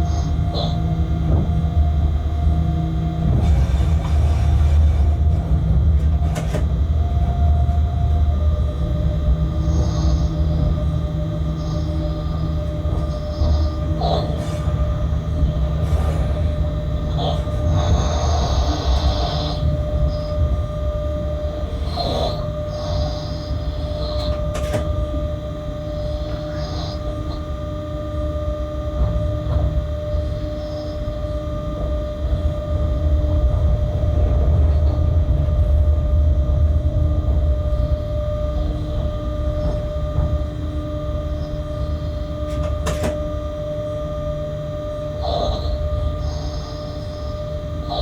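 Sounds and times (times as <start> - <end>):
wheels rumbling on rail: 0.0 - 27.9, 28.9 - 43.6
locomotive whine: 0.0 - 48.0.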